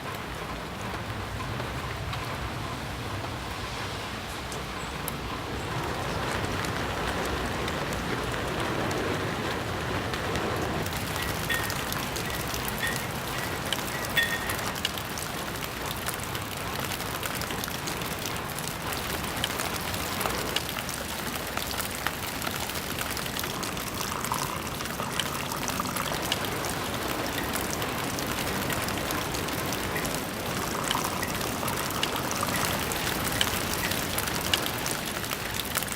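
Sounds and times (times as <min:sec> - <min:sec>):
rain falling: 0:00.0 - 0:35.9
raindrops ticking: 0:00.0 - 0:35.9.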